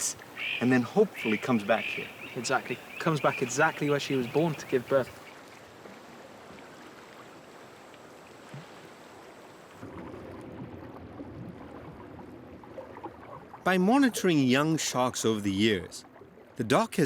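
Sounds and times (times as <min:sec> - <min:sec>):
shallow water flowing: 0:00.0 - 0:17.0.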